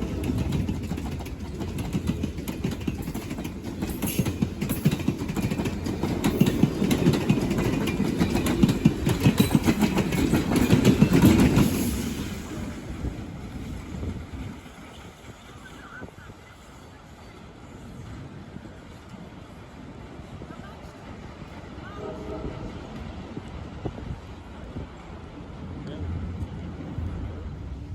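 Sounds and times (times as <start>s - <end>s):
train passing: 0.0s - 27.9s.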